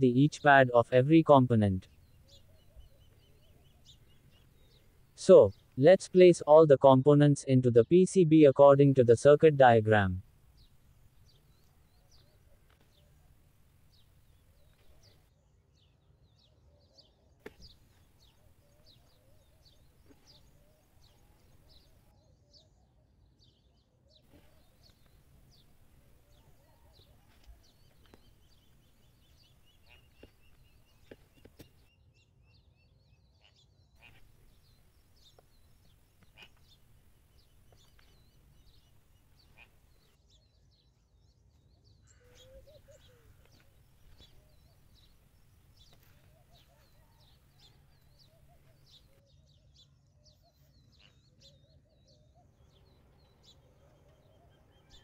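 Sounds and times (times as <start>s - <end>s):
faint bird chirps: 0.0s - 6.4s, 9.6s - 55.0s.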